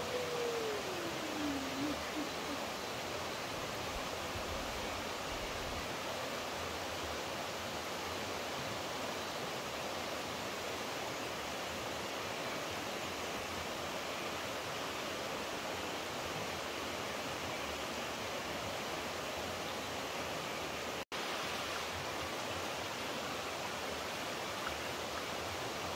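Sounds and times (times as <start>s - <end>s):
flowing water rushing: 0.0s - 25.9s.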